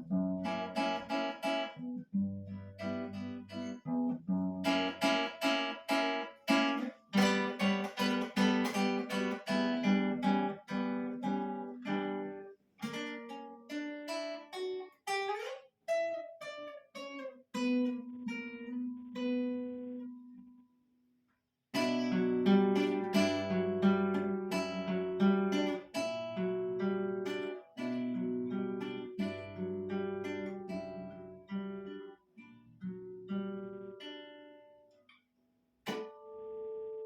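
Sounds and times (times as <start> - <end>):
acoustic guitar playing: 0.0 - 20.6, 21.8 - 35.1, 35.8 - 37.0.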